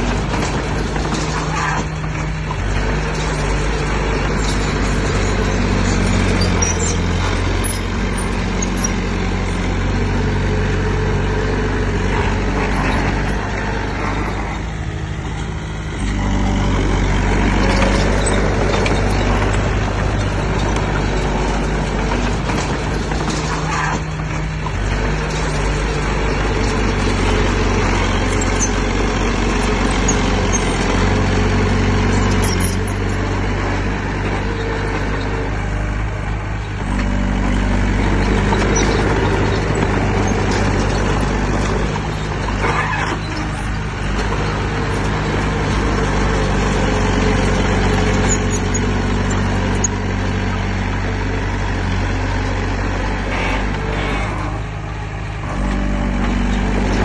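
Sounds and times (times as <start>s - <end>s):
heavy diesel engine running hard: 0.0s - 57.0s.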